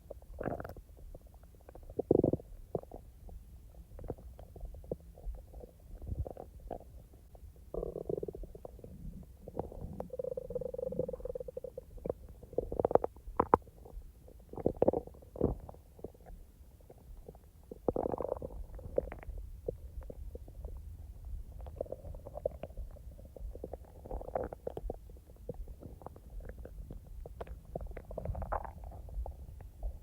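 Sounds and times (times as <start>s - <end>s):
stomach gurgling and rumbling: 0.0s - 30.0s.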